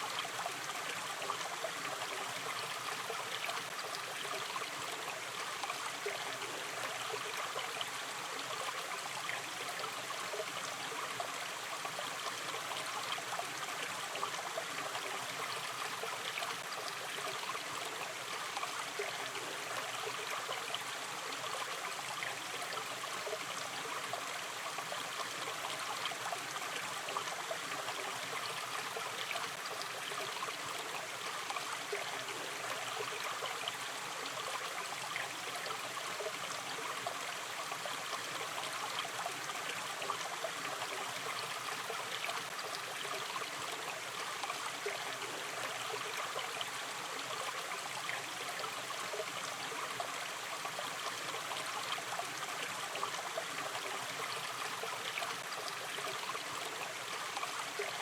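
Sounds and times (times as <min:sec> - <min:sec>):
shallow stream trickling: 0:00.0 - 0:58.0.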